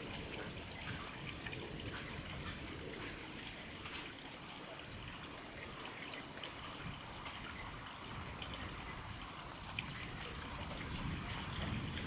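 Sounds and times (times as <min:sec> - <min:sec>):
water drips ticking: 0:00.0 - 0:12.0
water trickling: 0:00.0 - 0:12.0.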